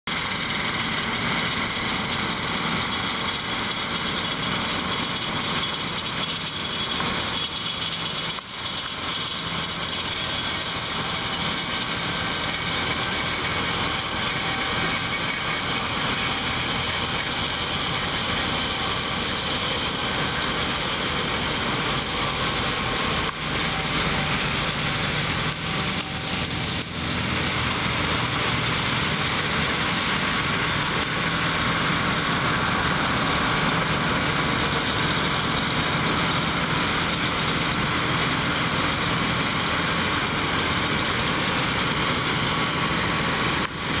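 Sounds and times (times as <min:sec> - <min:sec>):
combine harvester running: 0:00.0 - 0:44.0.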